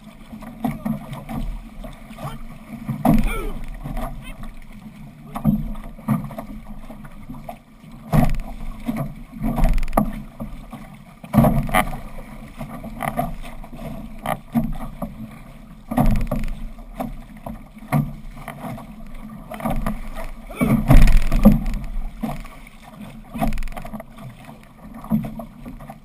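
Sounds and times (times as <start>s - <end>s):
paddle splashes: 0.0s - 26.0s
water rushing past canoe hull: 0.0s - 26.0s.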